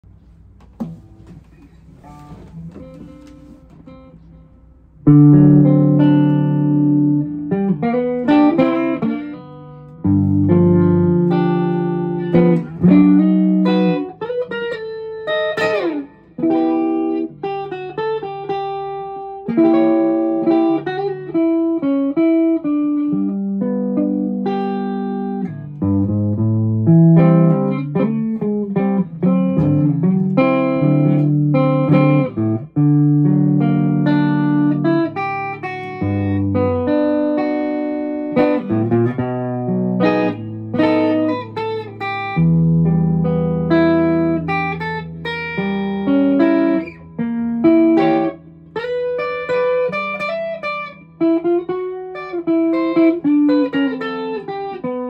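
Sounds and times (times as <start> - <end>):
clean electric guitar playing: 0.0 - 55.0.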